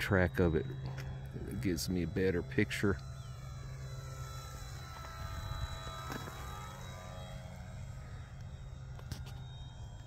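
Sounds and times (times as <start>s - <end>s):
electric motor and propeller whine: 0.0s - 10.0s.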